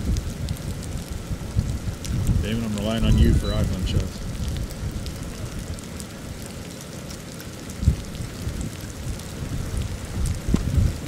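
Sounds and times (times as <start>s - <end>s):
rain pattering: 0.0s - 11.0s
steady low rumble: 0.0s - 11.0s.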